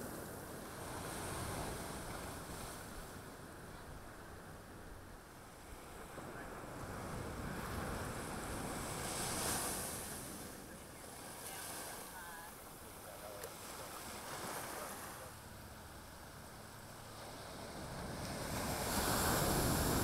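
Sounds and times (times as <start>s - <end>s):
ocean surf washing up a beach: 0.0s - 20.0s.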